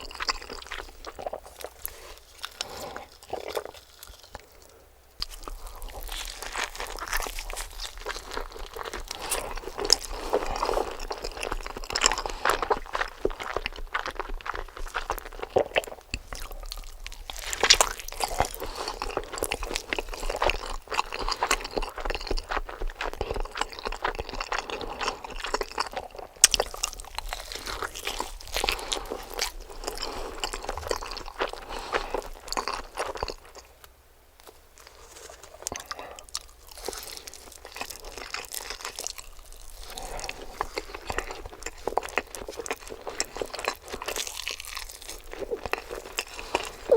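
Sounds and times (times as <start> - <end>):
crunchy chewing: 0.0 - 46.9.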